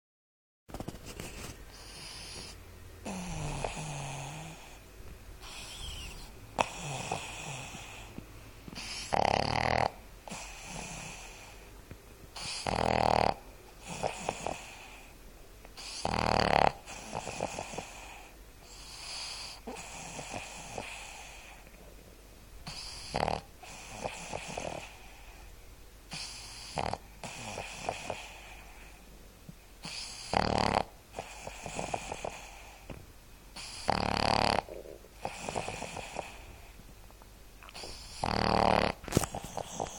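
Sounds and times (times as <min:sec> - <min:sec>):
dog snoring: 0:01.3 - 0:04.8, 0:05.4 - 0:11.7, 0:12.3 - 0:15.1, 0:15.8 - 0:21.9, 0:22.6 - 0:25.5, 0:26.1 - 0:29.0, 0:29.8 - 0:32.9, 0:33.5 - 0:36.8, 0:37.6 - 0:39.9.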